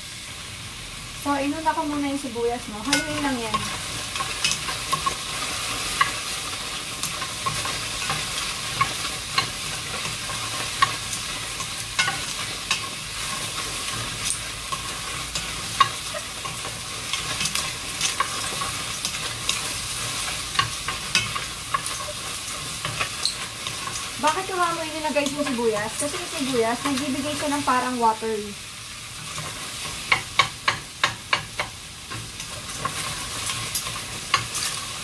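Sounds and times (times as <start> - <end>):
onions sizzling in a pot: 0.0 - 35.0.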